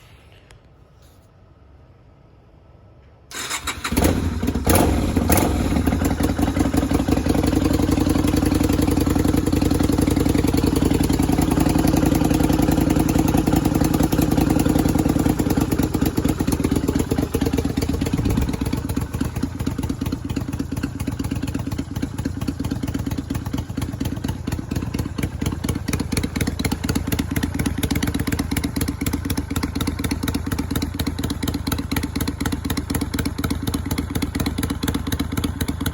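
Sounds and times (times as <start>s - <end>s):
motorcycle engine starting and idling: 3.0s - 35.9s.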